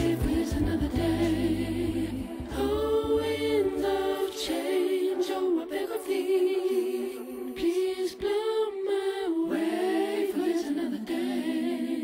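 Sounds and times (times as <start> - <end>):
a cappella voices in harmony: 0.0 - 12.0.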